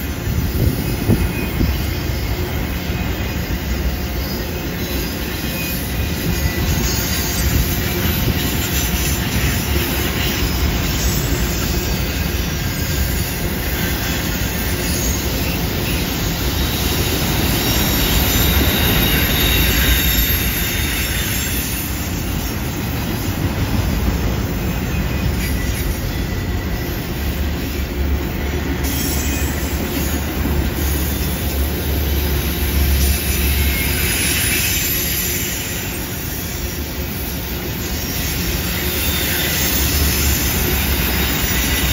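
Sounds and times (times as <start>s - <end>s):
high wheel squeal: 0.0s - 41.9s
steel wheels rumbling on rails: 0.0s - 41.9s.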